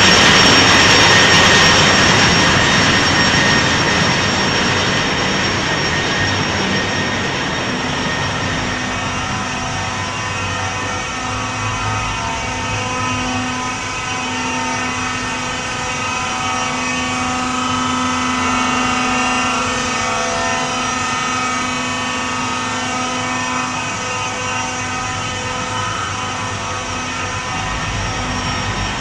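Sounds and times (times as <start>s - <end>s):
engine room machinery drone: 0.0s - 29.0s.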